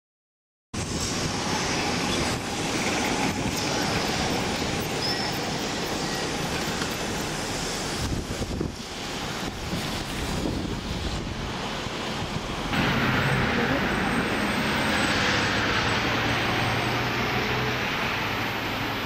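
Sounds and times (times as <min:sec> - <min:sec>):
road traffic rush: 0:00.8 - 0:19.0.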